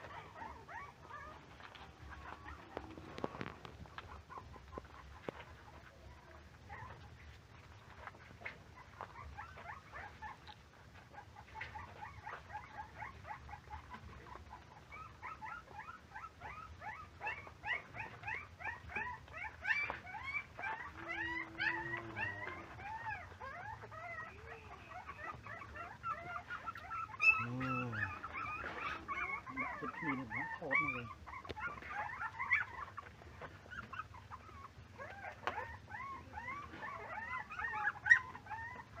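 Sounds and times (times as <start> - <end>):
puppy deep yelp: 0.0 - 7.2, 7.9 - 39.0
puppies whimpering and yipping: 0.0 - 39.0
puppy drawn-out whine: 0.0 - 39.0.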